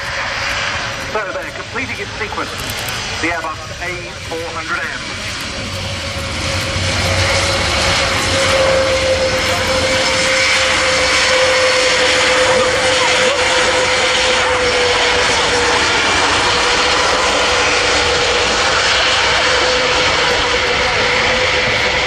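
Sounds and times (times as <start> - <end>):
turboprop aircraft drone and whine: 0.0 - 22.0.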